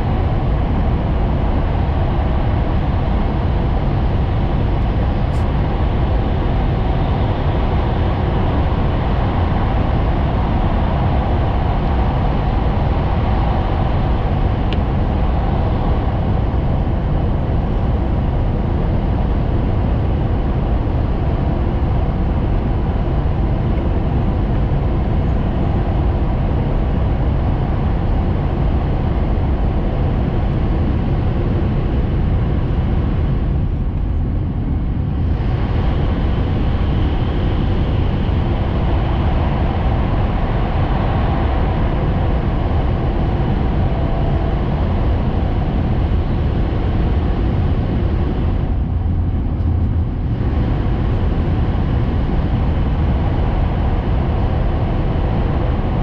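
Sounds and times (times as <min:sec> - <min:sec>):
train rumble from inside cabin: 0:00.0 - 0:56.0.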